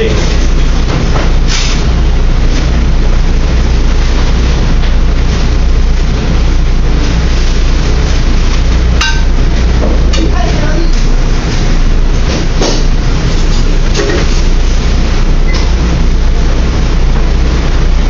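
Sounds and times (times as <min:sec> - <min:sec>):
exhaust fans roaring: 0:00.0 - 0:18.0
low hum: 0:00.0 - 0:18.0.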